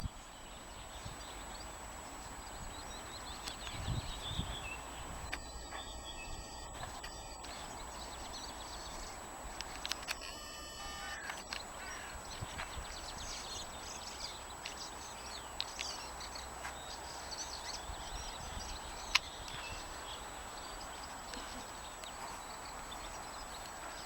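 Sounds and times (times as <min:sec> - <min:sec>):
small birds chirping: 0:00.0 - 0:24.0
steady background noise: 0:00.0 - 0:24.0.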